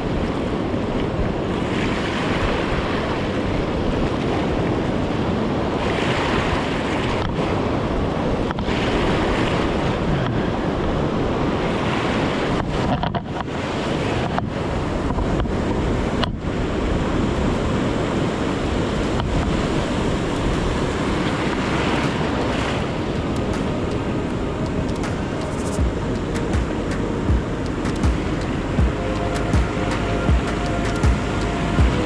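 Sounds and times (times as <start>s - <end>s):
surf breaking on shore: 0.0s - 28.8s
wind buffeting microphone: 0.0s - 32.0s.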